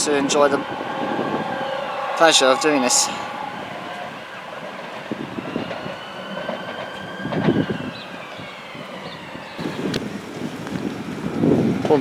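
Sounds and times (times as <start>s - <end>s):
electric train motor whine: 0.0s - 12.0s
train rumble: 0.0s - 12.0s
train wheels clacking: 0.0s - 12.0s.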